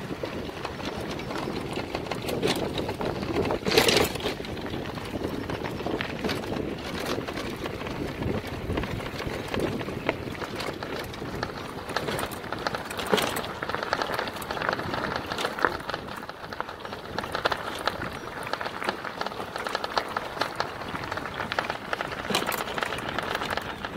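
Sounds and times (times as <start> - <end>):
bike and trailer rattling: 0.0 - 23.9
tyres crunching on gravel: 0.0 - 23.9.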